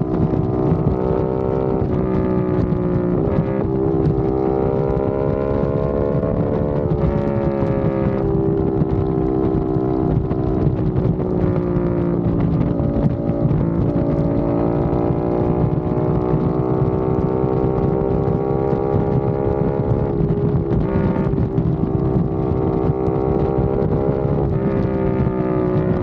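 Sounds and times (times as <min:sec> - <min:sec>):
motorcycle engine running: 0:00.0 - 0:26.0
wind on microphone: 0:00.0 - 0:26.0.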